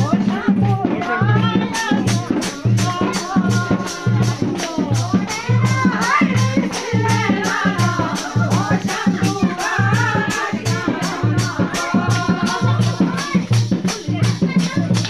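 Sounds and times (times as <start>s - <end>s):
folk dance music with singing: 0.0s - 15.0s
rattle keeping time: 0.0s - 15.0s
steady low beat: 0.0s - 15.0s.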